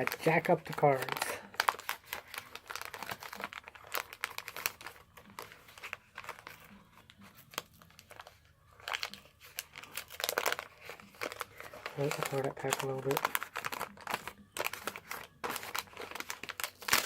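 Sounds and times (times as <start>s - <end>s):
wax-paper wrapper crinkling: 0.0s - 17.0s
wrapper tearing open: 0.0s - 17.0s.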